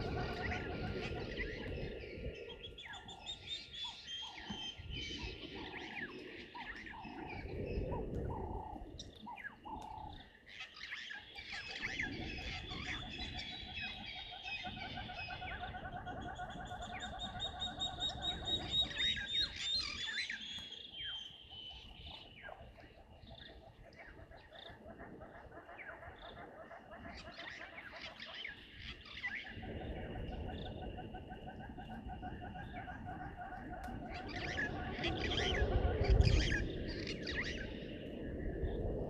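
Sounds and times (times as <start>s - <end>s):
birds chirping and trilling: 0.0s - 39.0s.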